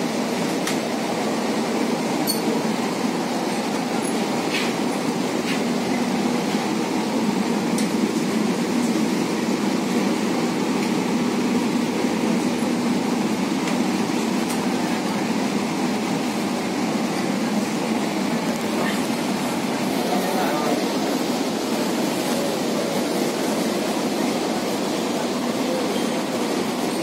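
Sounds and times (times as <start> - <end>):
train car running noise: 0.0 - 27.0.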